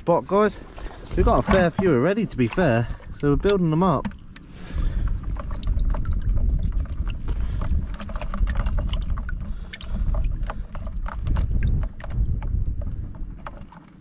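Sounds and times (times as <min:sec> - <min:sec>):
heavy low rumble: 0:00.0 - 0:13.6
water sloshing in a bucket: 0:00.0 - 0:14.0.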